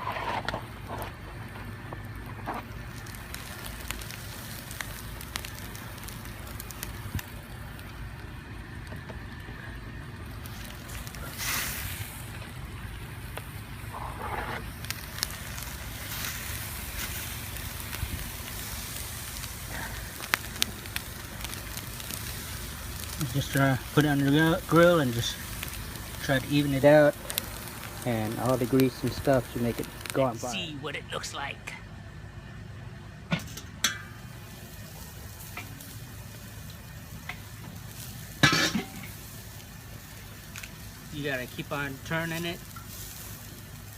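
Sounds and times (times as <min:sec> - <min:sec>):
sharp pops of fire: 0:00.0 - 0:30.4, 0:33.3 - 0:41.1
ribs sizzling on a grill: 0:00.0 - 0:31.5, 0:33.8 - 0:43.9
fire crackling: 0:00.0 - 0:43.9.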